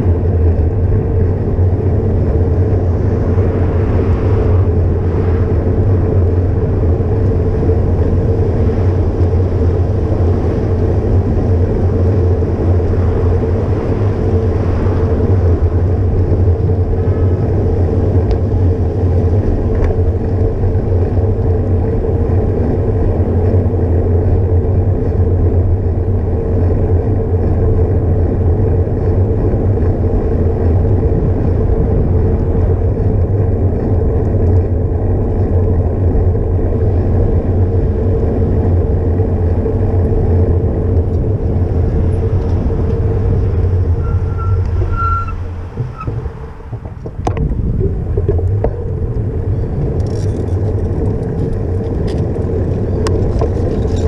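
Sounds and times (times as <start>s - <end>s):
bicycle tyre noise on road: 0.0s - 54.0s
wind rush: 0.0s - 54.0s.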